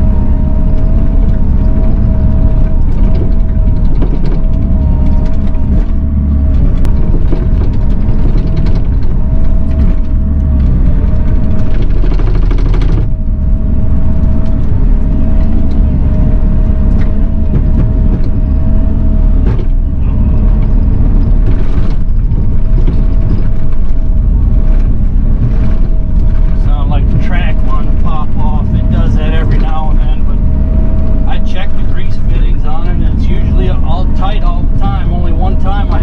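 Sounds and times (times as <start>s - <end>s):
constant whine: 0.0s - 36.0s
excavator engine rumble: 0.0s - 36.0s.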